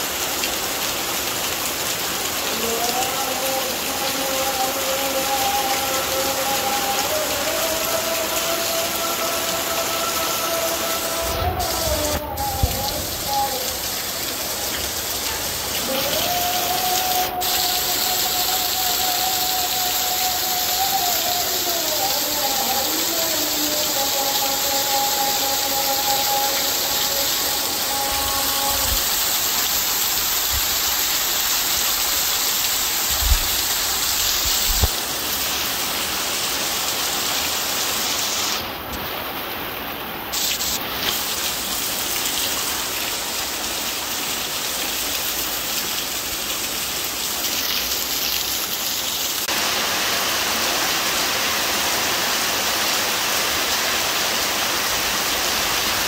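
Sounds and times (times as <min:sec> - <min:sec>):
water pouring off eaves: 0:00.0 - 0:39.1, 0:39.8 - 0:56.0
heavy rain on a tin roof: 0:00.0 - 0:56.0.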